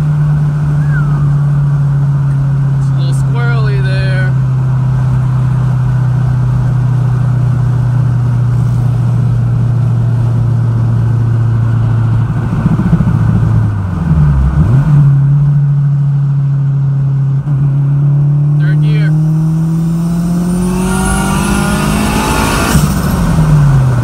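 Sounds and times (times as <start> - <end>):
car engine droning in cabin: 0.0 - 24.0.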